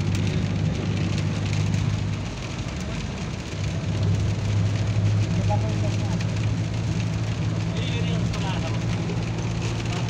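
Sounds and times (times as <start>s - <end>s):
car engine and road drone: 0.0s - 10.0s
rain ticking on windshield: 0.0s - 10.0s.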